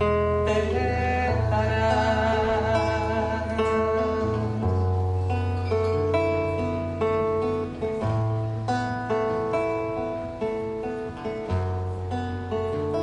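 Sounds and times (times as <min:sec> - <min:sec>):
classical guitar playing: 0:00.0 - 0:13.0.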